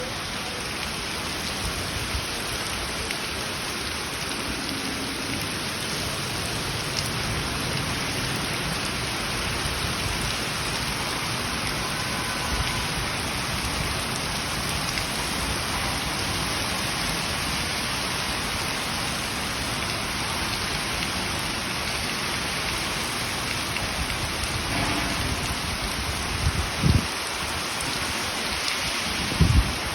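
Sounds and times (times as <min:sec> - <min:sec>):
heavy rain: 0:00.0 - 0:29.9.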